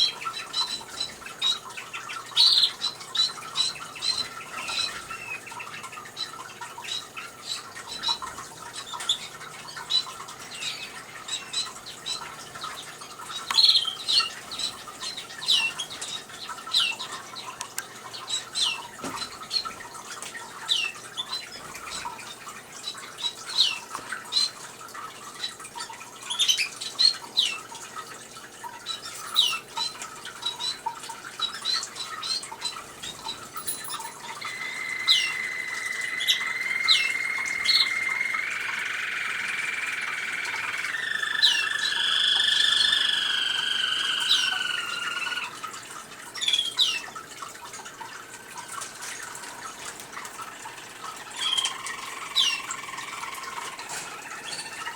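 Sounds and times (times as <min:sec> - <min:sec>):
cage birds chirping: 0:00.0 - 0:54.9
water fountain trickling: 0:00.0 - 0:54.9.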